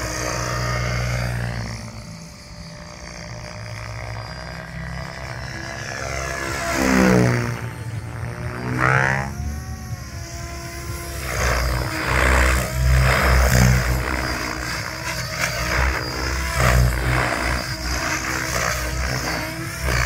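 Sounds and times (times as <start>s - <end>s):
rc helicopter motor and rotor whine: 0.0s - 20.0s.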